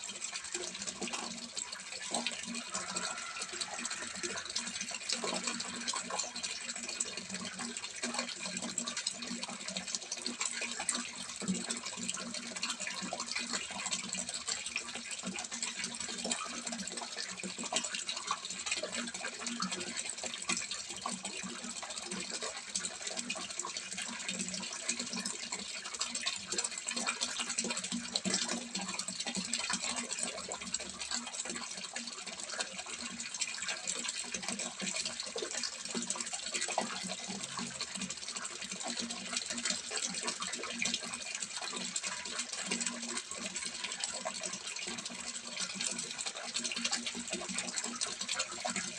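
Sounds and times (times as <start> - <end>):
water splashing into pond: 0.1 - 48.9.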